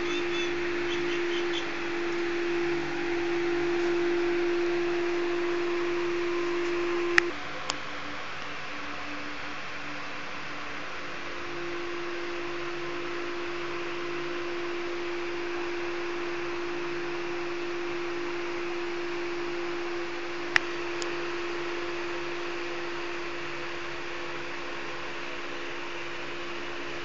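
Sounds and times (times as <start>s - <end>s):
fan humming with hiss: 0.0s - 27.0s.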